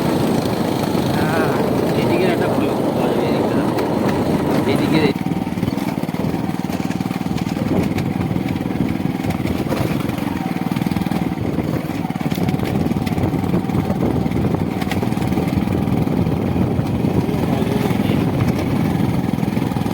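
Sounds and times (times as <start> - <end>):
vehicle engine pulsing: 0.0 - 19.9.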